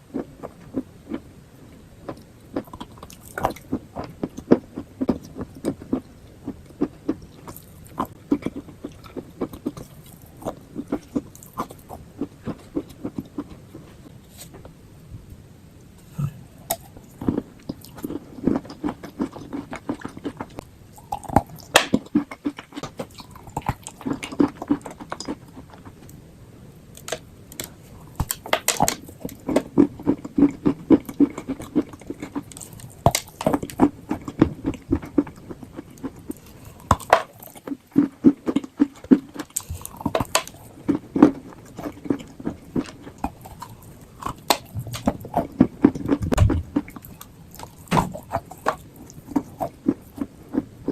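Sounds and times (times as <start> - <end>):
person chewing: 2.0 - 14.6, 16.0 - 26.0, 27.0 - 50.9.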